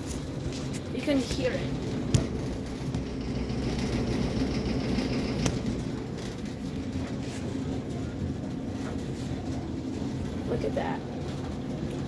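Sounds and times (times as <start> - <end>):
washing machine drum spinning: 0.0 - 12.0.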